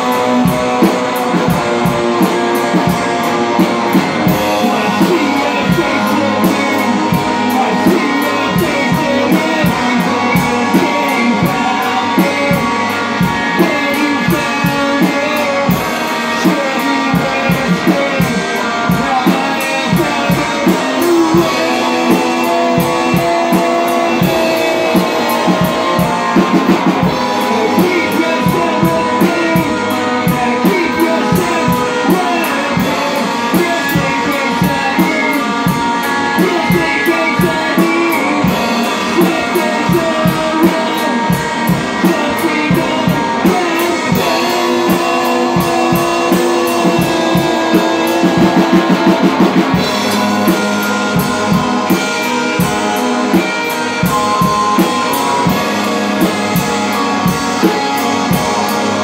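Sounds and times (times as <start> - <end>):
drum kit beat: 0.0 - 59.0
electric guitar: 0.0 - 59.0.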